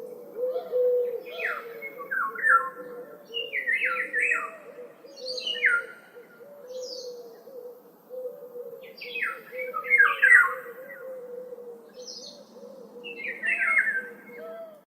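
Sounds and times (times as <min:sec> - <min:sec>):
low bird warbling: 0:00.0 - 0:14.8.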